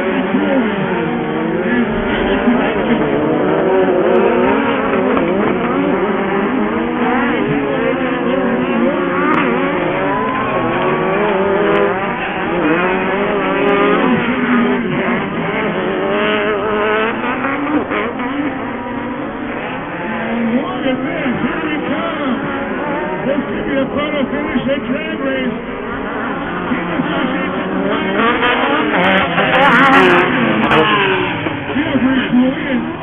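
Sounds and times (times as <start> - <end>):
buggy engines revving: 0.0 - 33.0.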